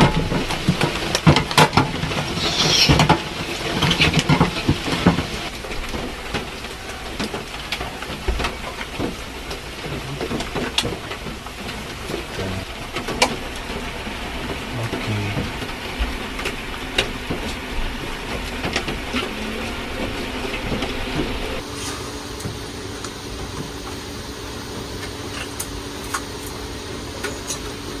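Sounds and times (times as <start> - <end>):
heavy rain on a vehicle roof: 0.0 - 2.4, 3.0 - 21.7, 22.4 - 28.0.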